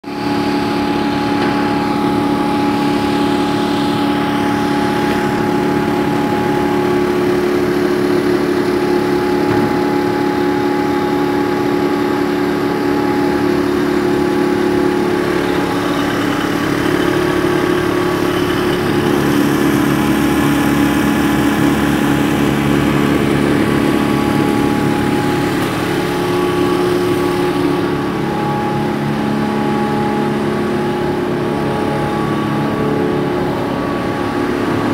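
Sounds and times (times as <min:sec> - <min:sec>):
grinding machine humming: 0:00.1 - 0:34.9.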